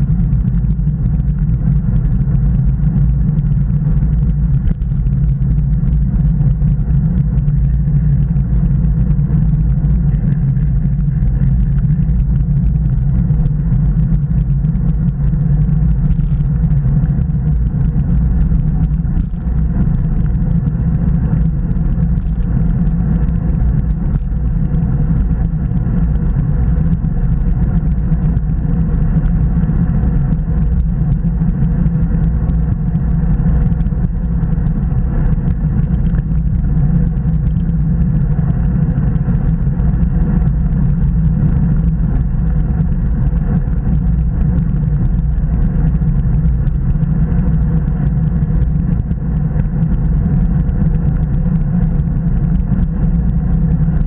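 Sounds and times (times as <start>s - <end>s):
tyre and road noise: 0.0s - 54.0s
wind buffeting microphone: 0.0s - 54.0s.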